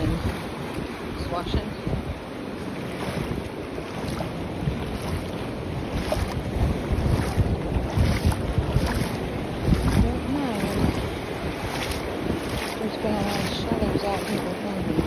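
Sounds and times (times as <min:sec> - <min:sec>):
shallow water lapping: 0:00.0 - 0:15.0
wind buffeting microphone: 0:00.0 - 0:15.0.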